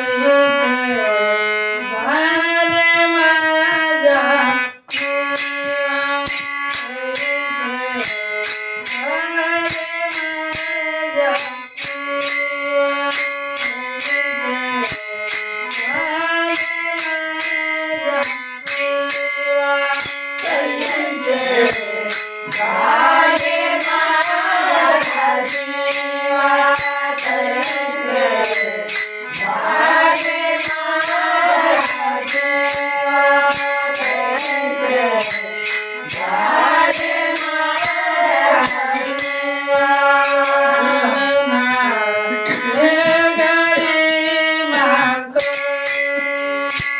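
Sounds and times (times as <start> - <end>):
woman singing devotional song: 0.0 - 46.7.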